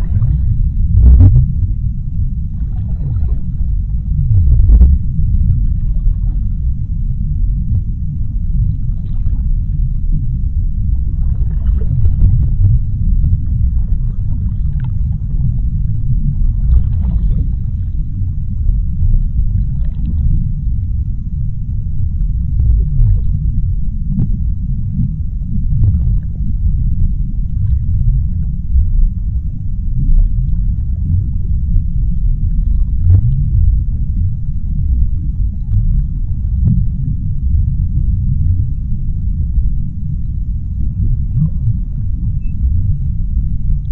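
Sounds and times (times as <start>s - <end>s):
deep underwater rumble: 0.0s - 43.9s
faint crackles: 0.0s - 43.9s.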